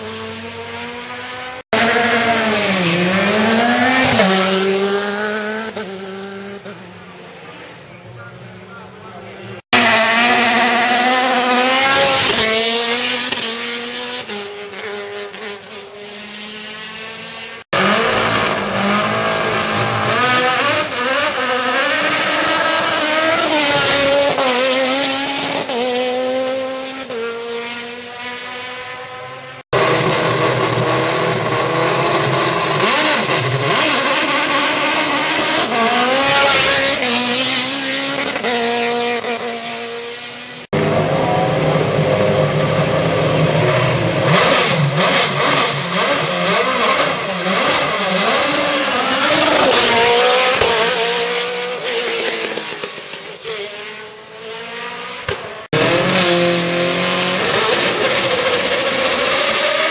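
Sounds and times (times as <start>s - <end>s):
race car engines accelerating: 0.0s - 59.9s.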